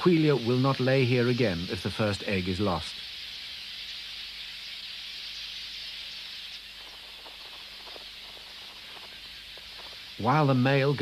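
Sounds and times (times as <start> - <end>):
dense bird colony chatter: 0.0 - 11.0
faint bird calls: 0.0 - 11.0.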